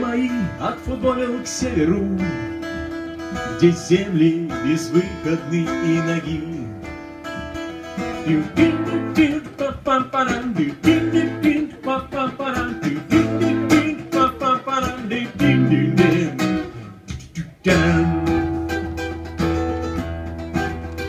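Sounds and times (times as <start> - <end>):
acoustic guitar strumming: 0.0 - 21.0
steady bass: 0.0 - 21.0.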